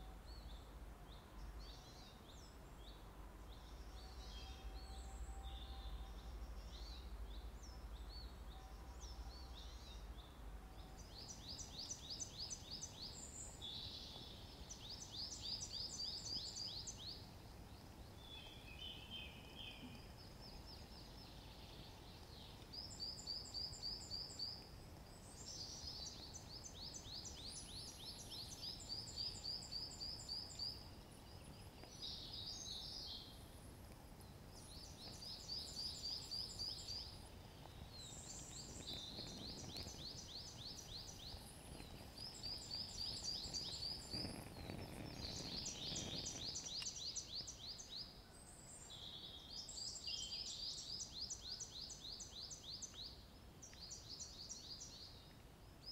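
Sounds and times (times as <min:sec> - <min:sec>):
songbirds singing trills: 0:00.0 - 0:55.9.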